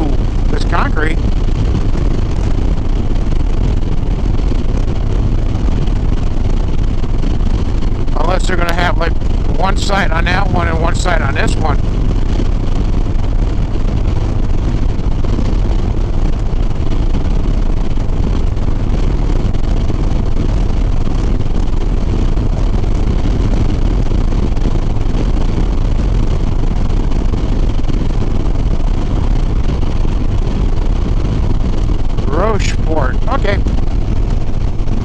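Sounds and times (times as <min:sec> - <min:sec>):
motorcycle engine running steadily: 0:00.0 - 0:35.0
wind rush on microphone: 0:00.0 - 0:35.0.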